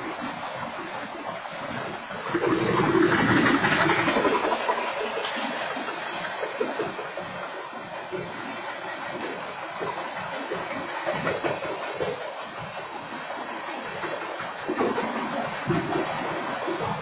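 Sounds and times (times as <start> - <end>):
train wheels on rails: 2.2 - 17.0.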